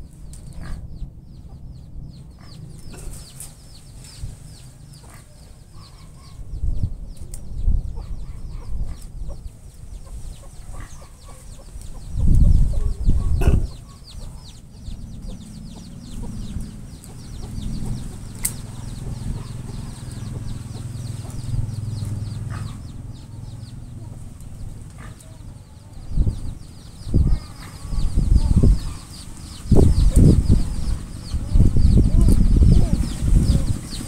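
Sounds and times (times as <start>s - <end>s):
low rumbling: 0.0s - 34.0s
chickens clucking: 0.1s - 34.0s.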